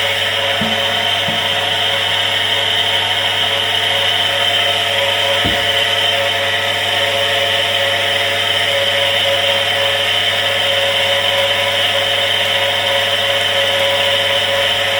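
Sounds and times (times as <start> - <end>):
electric water pump motor hum: 0.0 - 14.9.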